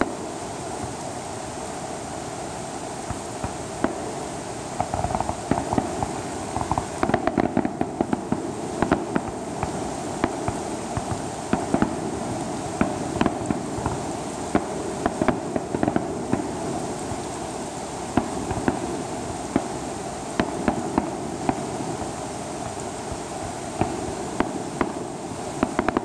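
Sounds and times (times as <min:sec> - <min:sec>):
background hiss: 0:00.0 - 0:26.0
fireworks popping and crackling: 0:00.0 - 0:26.0.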